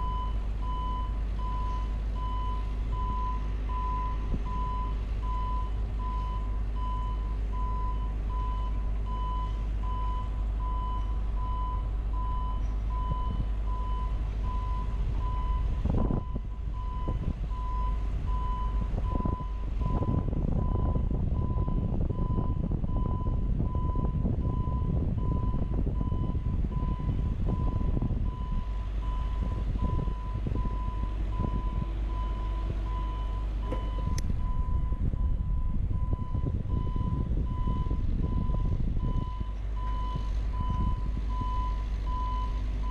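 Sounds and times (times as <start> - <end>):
boom lift alarm beeping: 0.0 - 42.9.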